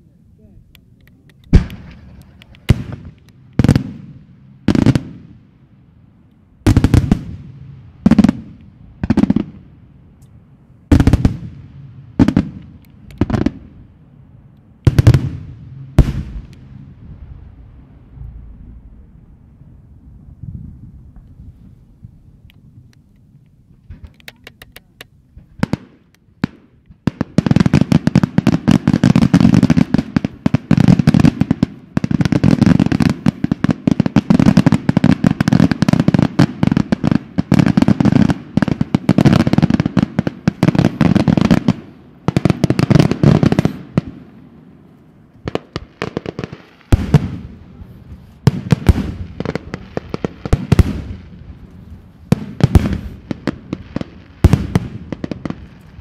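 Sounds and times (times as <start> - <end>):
fireworks crackling: 0.6 - 13.8, 14.8 - 56.0
fireworks bangs: 1.4 - 5.5, 6.6 - 9.8, 10.9 - 13.8, 14.8 - 21.7, 25.4 - 44.6, 45.4 - 56.0.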